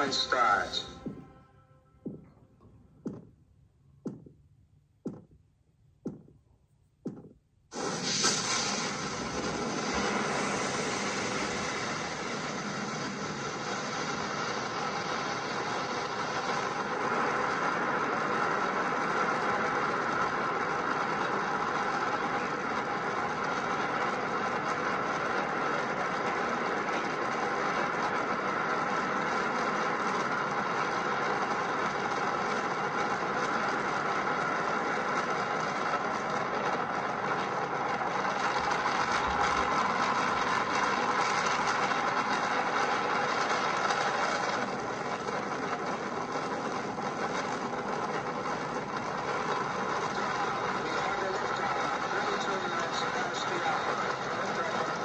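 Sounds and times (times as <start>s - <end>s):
rocket engines roaring: 0.0s - 1.4s, 7.7s - 55.0s.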